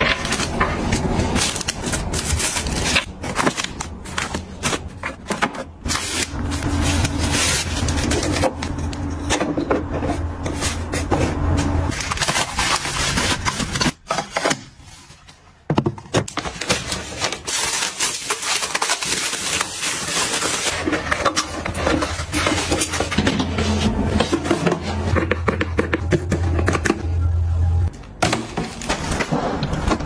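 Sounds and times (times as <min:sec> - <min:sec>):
paper and plastic rustling: 0:00.0 - 0:27.0.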